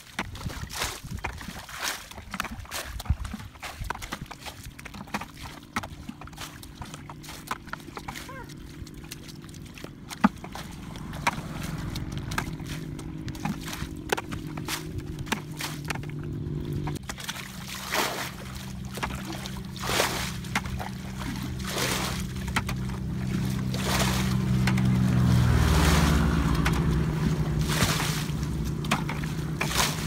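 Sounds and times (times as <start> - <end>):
motor running steadily: 0.0 - 30.0
water sloshing and splashing: 0.0 - 30.0.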